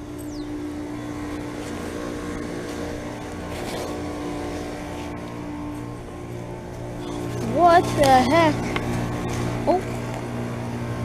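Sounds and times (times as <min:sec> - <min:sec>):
fan noise: 0:00.0 - 0:11.0
heat pump compressor hum: 0:00.0 - 0:11.0.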